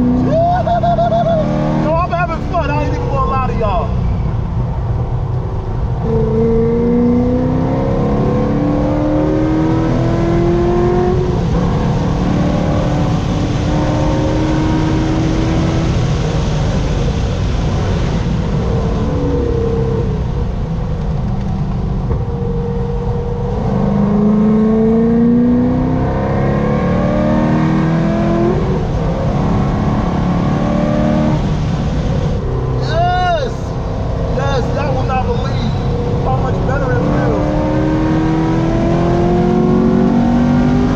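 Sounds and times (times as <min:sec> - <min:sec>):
sports car engine revving: 0:00.0 - 0:03.2, 0:05.6 - 0:40.9
steady rush of noise: 0:00.0 - 0:24.5, 0:27.0 - 0:40.9.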